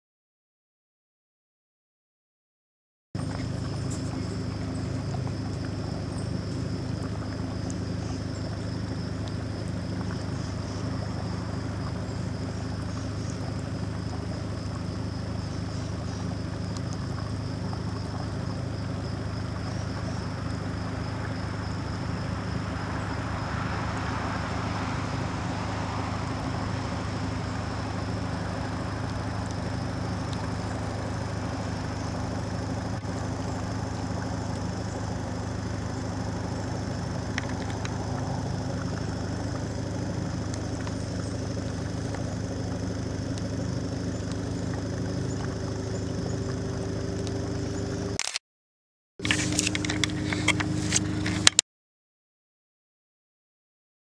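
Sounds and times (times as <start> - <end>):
engine idling: 3.2 - 48.4, 49.2 - 51.6.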